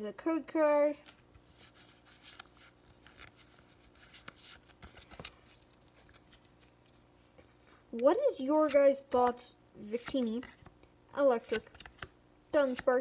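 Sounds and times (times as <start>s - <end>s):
trading cards sliding and rustling: 1.0s - 13.0s.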